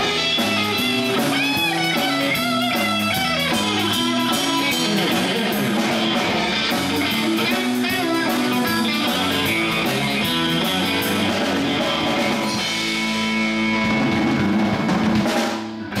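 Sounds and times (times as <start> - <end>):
amplified electric guitars: 0.0 - 16.0
drum kit: 0.0 - 16.0.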